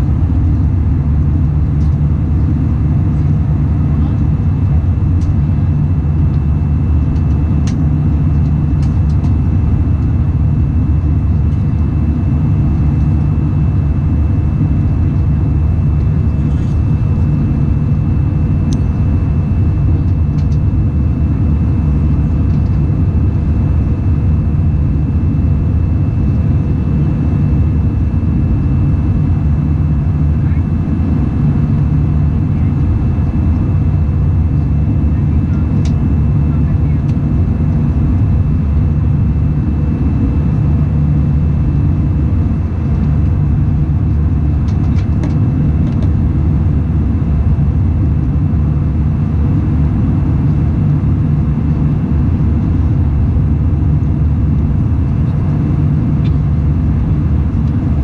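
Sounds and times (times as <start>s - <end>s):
high whine: 0.0s - 58.0s
jet engine drone in cabin: 0.0s - 58.0s.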